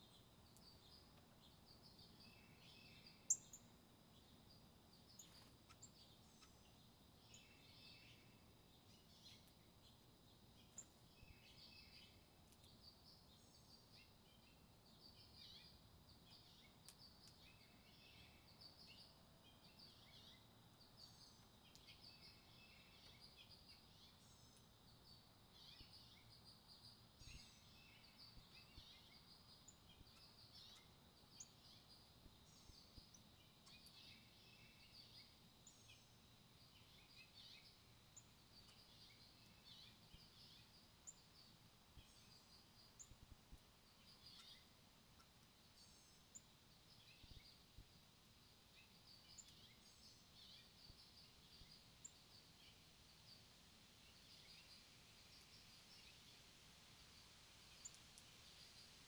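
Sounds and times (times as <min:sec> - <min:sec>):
small songbirds chirping: 0:00.0 - 0:59.0.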